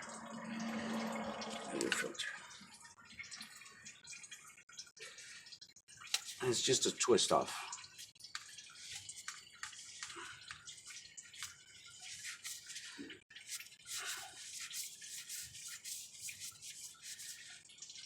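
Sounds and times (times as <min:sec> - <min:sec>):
fluid dripping and trickling: 0:00.0 - 0:18.0.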